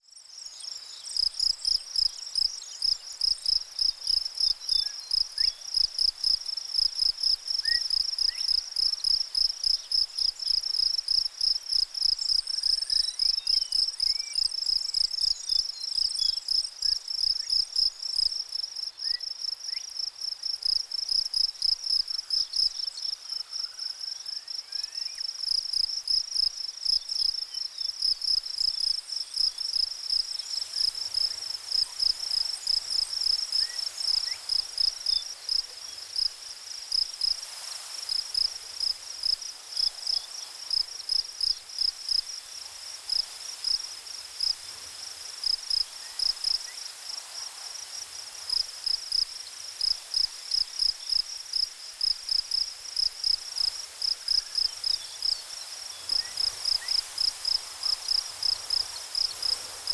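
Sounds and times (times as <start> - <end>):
insect chirping: 0.0 - 59.9.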